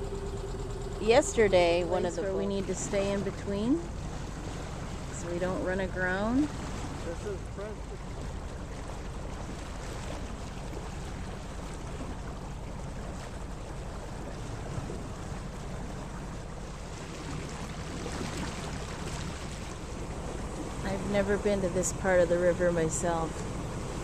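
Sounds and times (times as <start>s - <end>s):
low engine hum: 0.0s - 24.0s
water rushing along hull: 0.0s - 24.0s.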